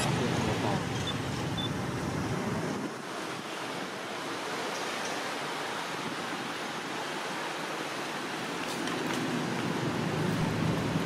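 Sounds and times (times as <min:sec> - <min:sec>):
outdoor ambience rushing noise: 0:00.0 - 0:11.0.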